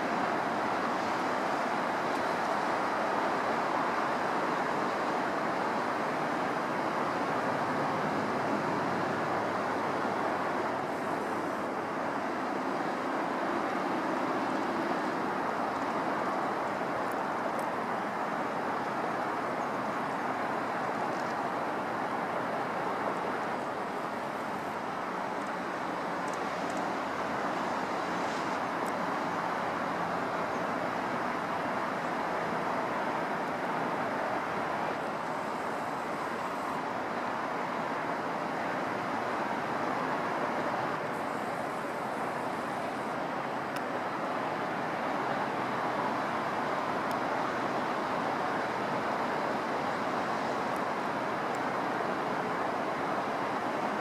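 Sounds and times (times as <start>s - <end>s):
road traffic roar: 0.0s - 54.0s.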